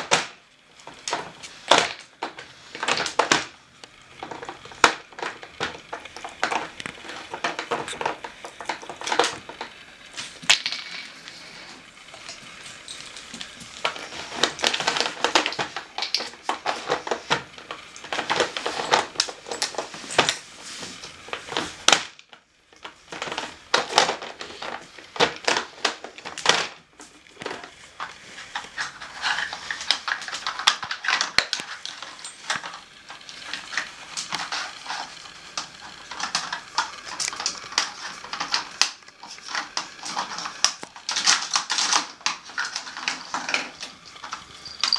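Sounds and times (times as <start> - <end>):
plastic puzzle pieces clattering on floor: 0.0 - 44.9.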